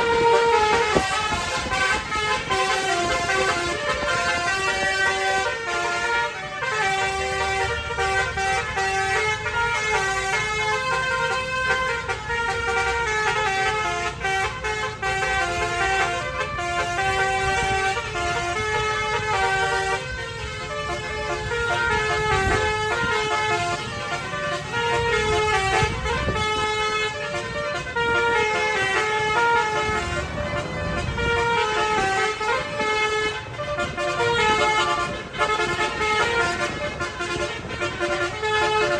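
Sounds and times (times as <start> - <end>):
multi-tone bus air horns: 0.0 - 38.9.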